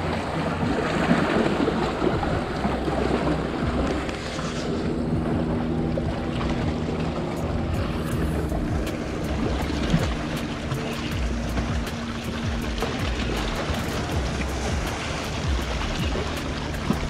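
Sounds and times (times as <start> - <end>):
low hum: 0.0 - 17.0
waves washing against rocks: 0.0 - 17.0
wind buffeting microphone: 0.0 - 17.0.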